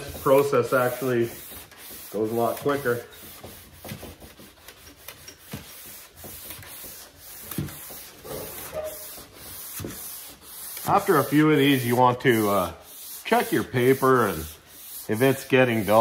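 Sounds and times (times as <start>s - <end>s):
sandpaper scratching on steel: 0.0s - 16.0s.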